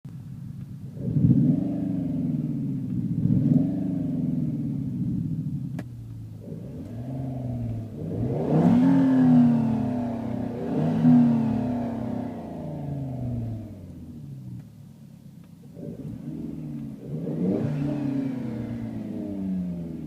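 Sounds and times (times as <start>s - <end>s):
car engine revving: 0.6s - 14.8s, 15.4s - 20.0s.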